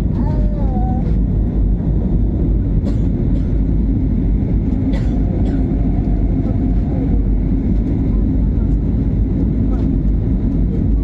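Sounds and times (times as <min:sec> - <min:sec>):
airliner low rumble: 0:00.0 - 0:11.0.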